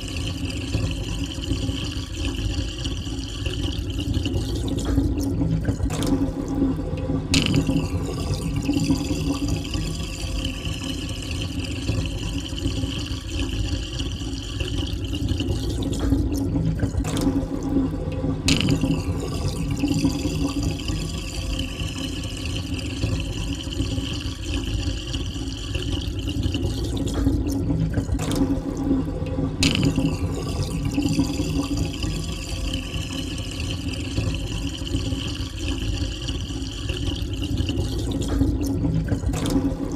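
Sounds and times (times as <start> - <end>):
water gurgling down a drain: 0.0 - 39.9.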